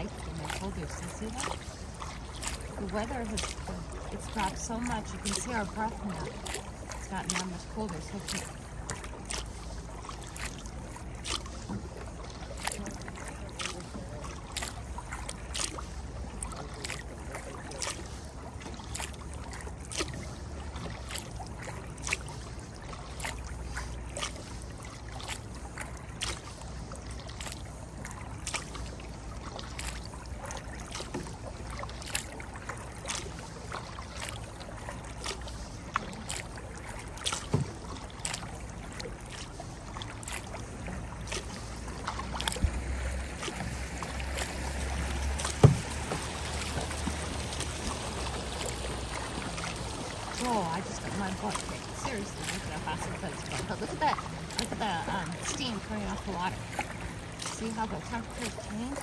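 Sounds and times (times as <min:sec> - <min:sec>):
paddle strokes in water: 0:00.0 - 0:59.0
steady low rumble: 0:00.0 - 0:59.0.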